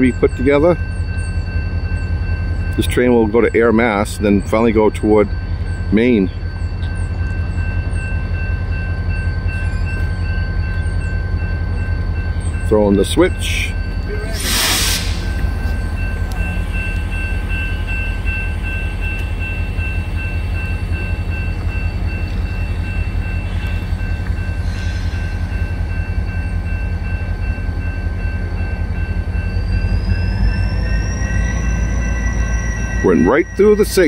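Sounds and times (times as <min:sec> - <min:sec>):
diesel locomotive engine rumble: 0:00.0 - 0:34.0.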